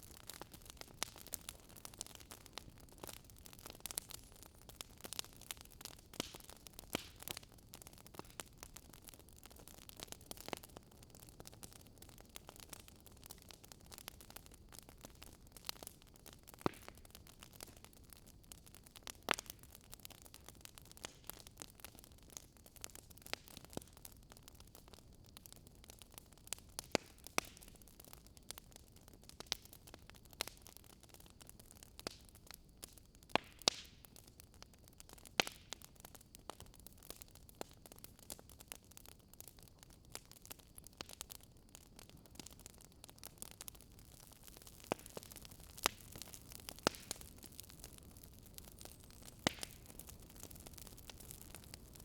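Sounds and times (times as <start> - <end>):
low hiss of burning logs: 0.0 - 52.0
wood fire popping: 0.0 - 52.0.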